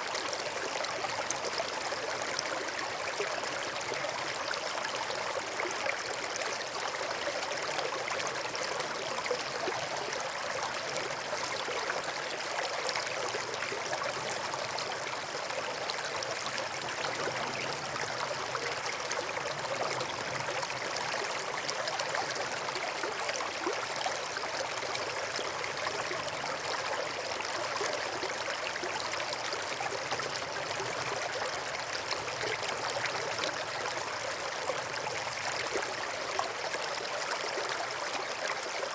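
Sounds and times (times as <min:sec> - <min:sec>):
brook babbling and trickling: 0:00.0 - 0:38.9.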